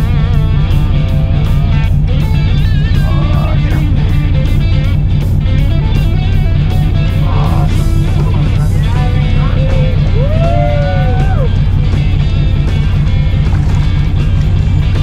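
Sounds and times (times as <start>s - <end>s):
background music with guitar: 0.0s - 15.0s
bass line: 0.0s - 15.0s
steady beat: 0.0s - 15.0s.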